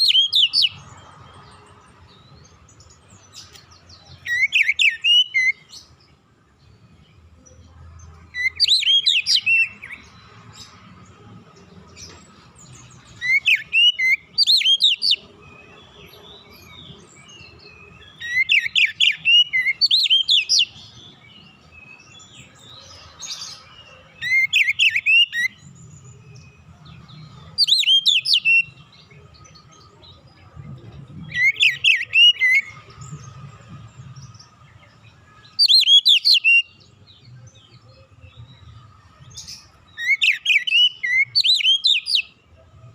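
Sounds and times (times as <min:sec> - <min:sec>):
magpie-robin singing: 0:00.0 - 0:10.8, 0:11.4 - 0:42.9.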